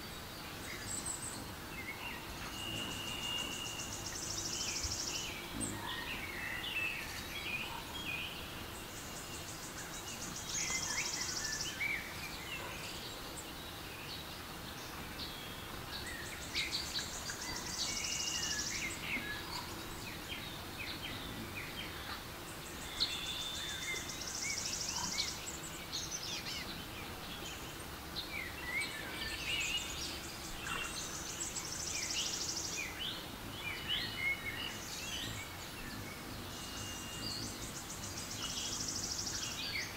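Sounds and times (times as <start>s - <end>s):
birds chirping and singing: 0.0s - 39.9s
woodland ambience hiss: 0.0s - 39.9s.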